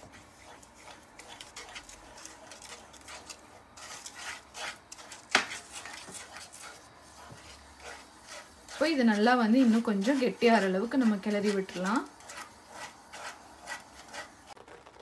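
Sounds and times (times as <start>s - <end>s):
wooden spatula scraping a pan: 0.0s - 14.6s.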